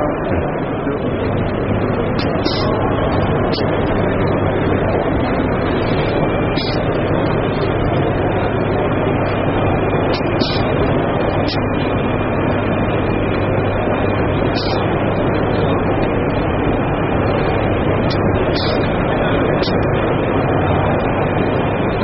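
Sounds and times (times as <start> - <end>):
rumble and hiss of crowded hall: 0.0 - 22.0.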